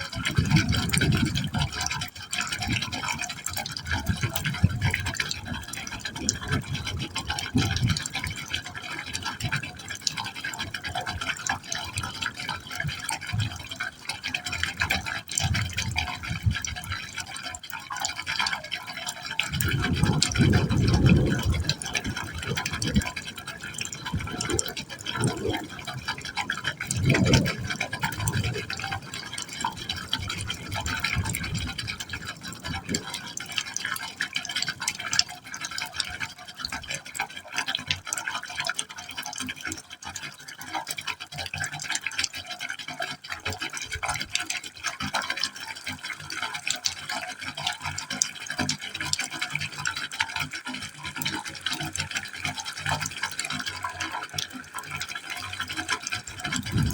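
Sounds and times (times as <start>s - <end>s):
deep gurgling: 0.0s - 56.9s
water splashing into a pipe hole: 0.0s - 56.9s.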